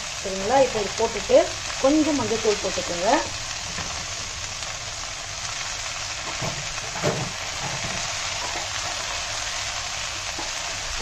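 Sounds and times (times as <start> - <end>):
greens sizzling in hot oil: 0.0 - 11.0.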